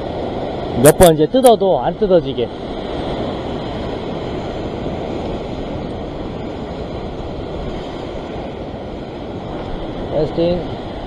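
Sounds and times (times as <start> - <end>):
ocean surf over rocks: 0.0 - 11.0.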